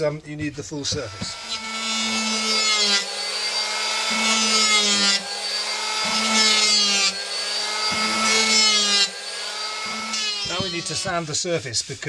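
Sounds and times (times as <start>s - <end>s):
electric hand planer cutting wood: 0.9s - 11.4s.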